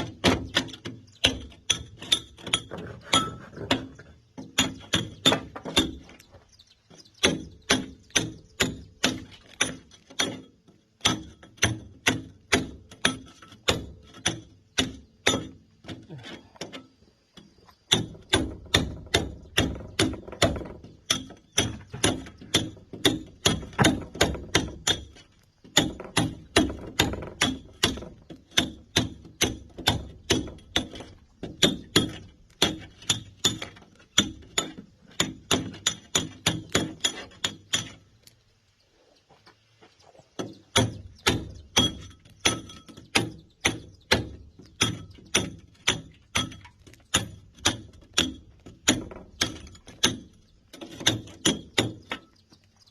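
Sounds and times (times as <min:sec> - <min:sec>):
sledgehammer striking steel chisel: 0:00.2 - 0:06.0, 0:07.2 - 0:15.6, 0:17.9 - 0:38.0, 0:40.7 - 0:52.2.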